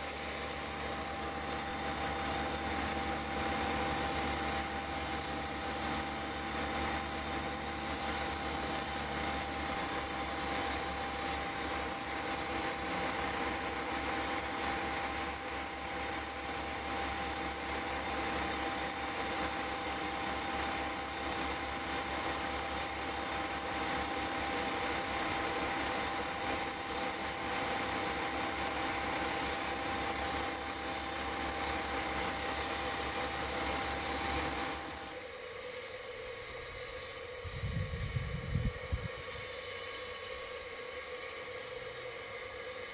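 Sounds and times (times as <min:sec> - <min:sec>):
steam hissing: 0:00.0 - 0:42.9.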